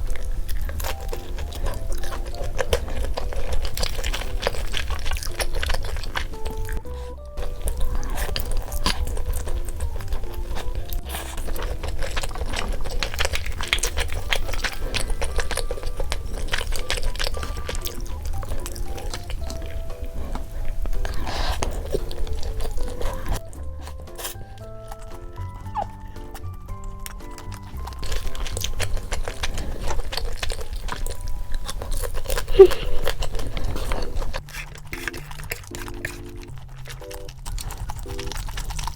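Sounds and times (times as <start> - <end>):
crunchy chewing of fried chicken: 0.0 - 38.9
cute background music: 0.0 - 38.9.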